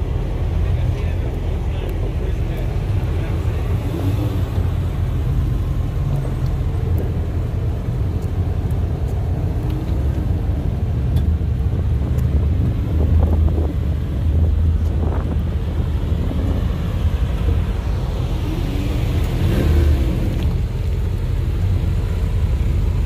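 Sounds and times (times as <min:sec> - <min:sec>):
car engine low rumble: 0:00.0 - 0:23.0.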